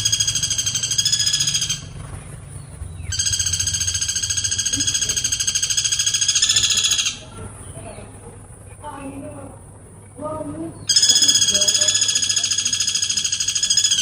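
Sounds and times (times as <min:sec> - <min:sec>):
woodpecker rattling trill calls: 0:00.0 - 0:08.2, 0:10.8 - 0:14.0.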